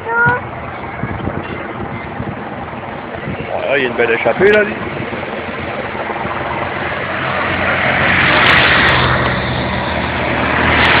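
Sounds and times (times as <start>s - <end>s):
vehicles driving past: 0.0s - 11.0s.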